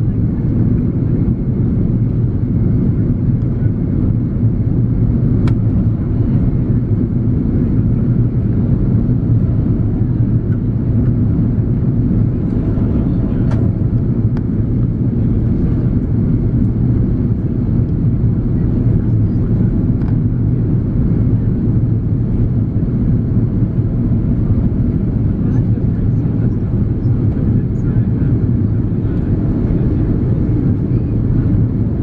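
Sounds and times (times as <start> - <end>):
airliner drone in flight: 0.0 - 32.0.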